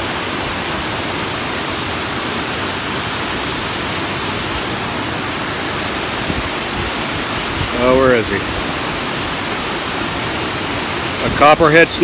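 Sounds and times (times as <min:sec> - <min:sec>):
water rushing through dam: 0:00.0 - 0:12.0.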